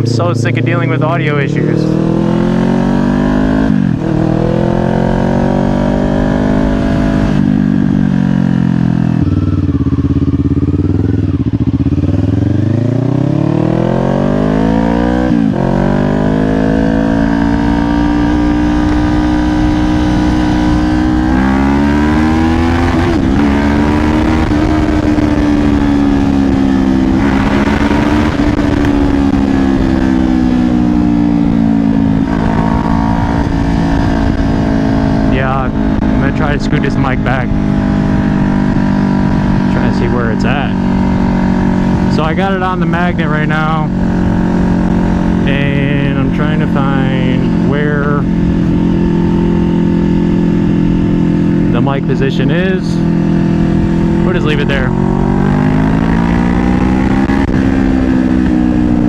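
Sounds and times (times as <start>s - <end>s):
motorcycle engine accelerating: 0.0s - 59.0s
wind rushing over microphone: 0.8s - 9.9s, 10.6s - 59.0s.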